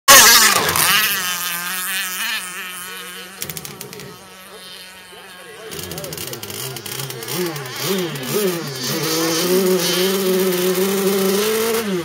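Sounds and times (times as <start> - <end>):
model boat engine buzzing: 0.1 - 12.0.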